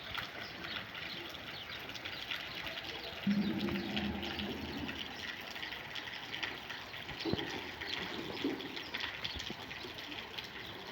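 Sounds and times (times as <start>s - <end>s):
rain falling: 0.0s - 10.9s
water splashing and running: 0.0s - 10.9s.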